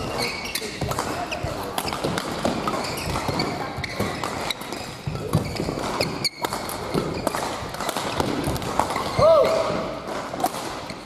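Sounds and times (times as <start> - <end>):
shoes squeaking: 0.0 - 9.3
rackets hitting shuttlecock: 0.0 - 11.0.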